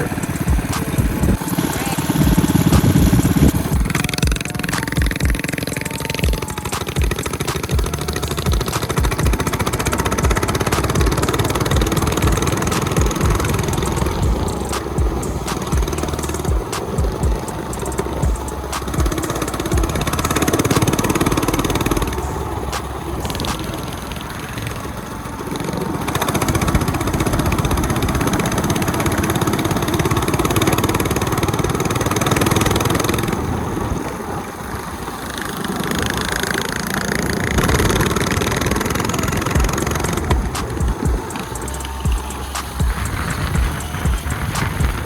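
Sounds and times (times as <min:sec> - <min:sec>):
mini bike engine revving: 0:00.0 - 0:45.0.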